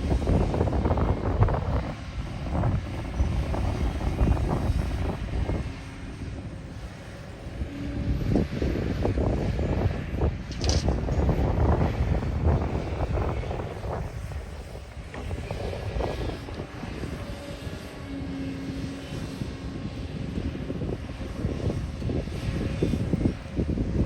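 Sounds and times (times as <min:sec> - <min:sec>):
heavy diesel machinery working: 0:00.0 - 0:24.0.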